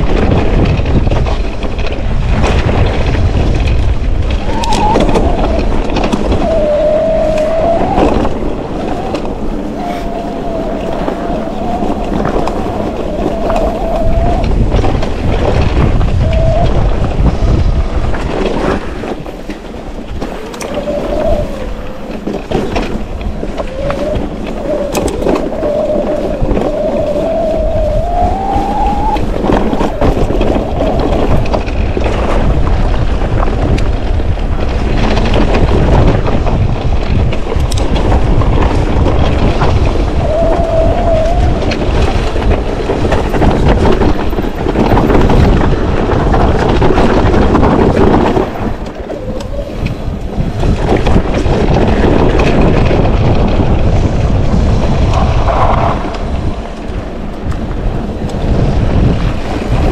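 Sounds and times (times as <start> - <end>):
bike rattling and knocking: 0.0 - 59.9
wind buffeting microphone: 0.0 - 59.9.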